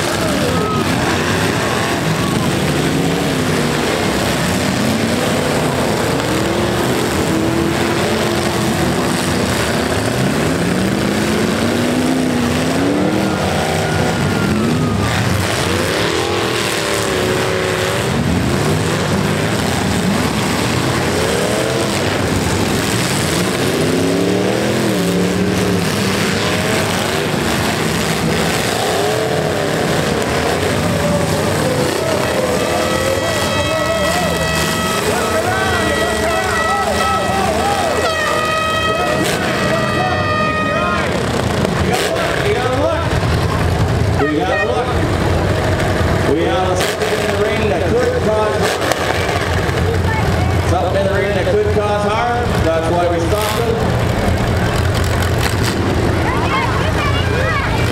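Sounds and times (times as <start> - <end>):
truck engines revving: 0.0 - 57.9.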